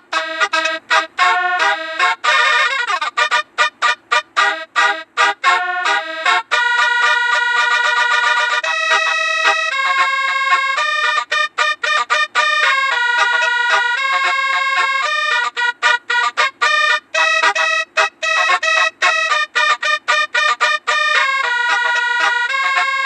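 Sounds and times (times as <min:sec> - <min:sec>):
bus horn playing a melody: 0:00.0 - 0:23.0.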